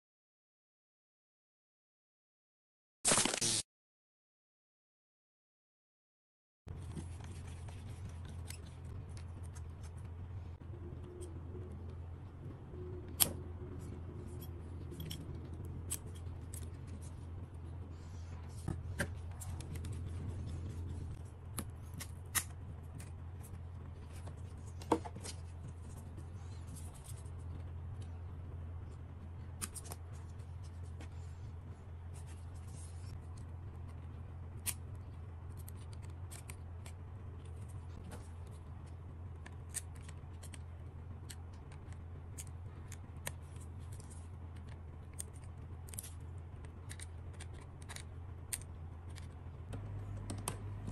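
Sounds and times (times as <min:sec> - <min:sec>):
steady low hum: 0:06.7 - 0:50.9.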